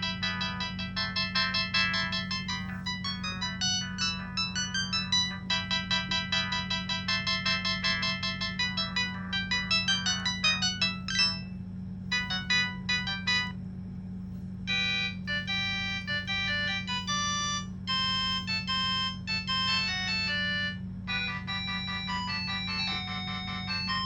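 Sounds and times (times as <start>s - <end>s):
electronic ringtone melodies: 0.0s - 13.6s, 14.7s - 24.0s
steady low hum: 0.0s - 24.0s.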